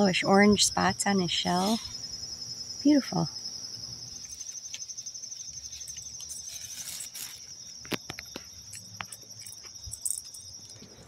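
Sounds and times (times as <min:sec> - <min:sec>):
insect chorus trilling: 0:00.0 - 0:11.0.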